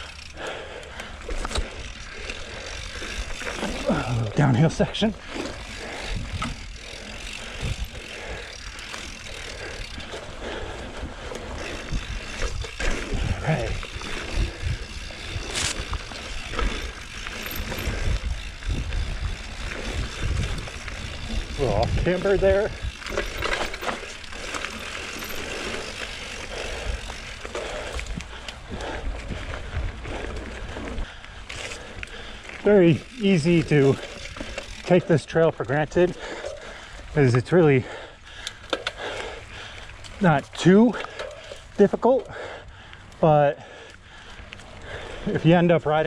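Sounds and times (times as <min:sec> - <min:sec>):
bike tyre noise on dirt: 0:00.0 - 0:46.0.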